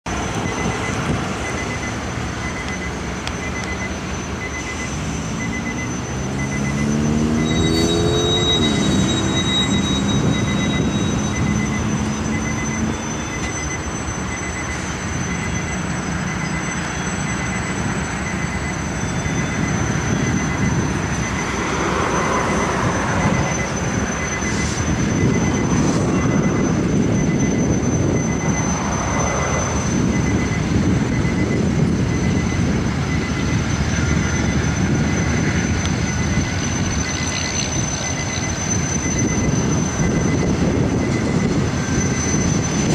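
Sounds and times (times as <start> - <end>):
diesel locomotive engines running: 0.0 - 42.9.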